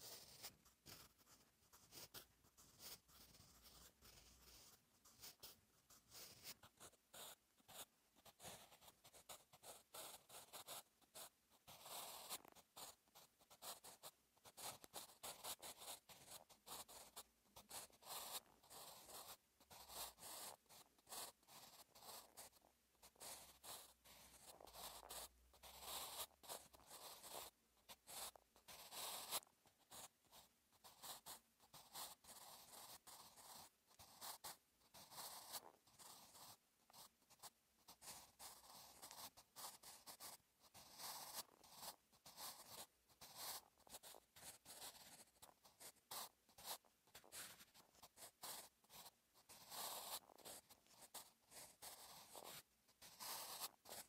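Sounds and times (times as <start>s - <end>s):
pencil scratching on paper: 0.0s - 54.0s.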